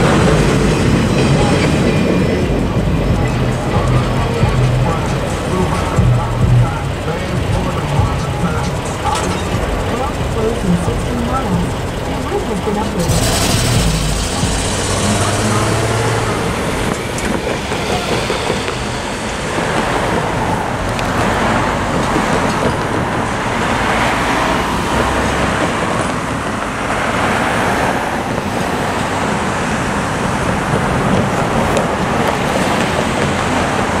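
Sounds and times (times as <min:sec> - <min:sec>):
cars and trucks passing: 0:00.0 - 0:34.0.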